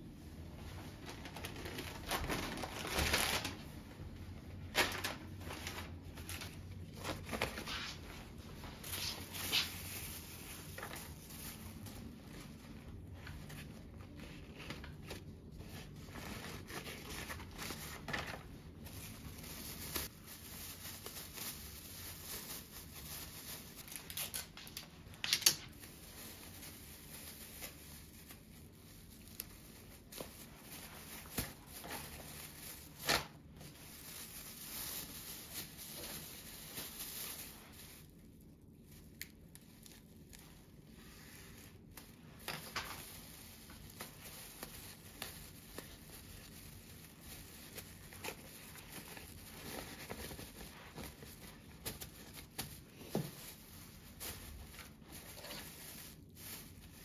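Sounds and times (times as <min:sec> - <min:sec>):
plastic packaging crinkling: 0:00.8 - 0:57.0.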